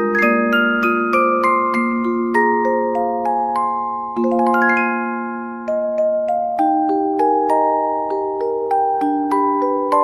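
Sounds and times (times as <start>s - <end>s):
music box melody: 0.0s - 10.0s.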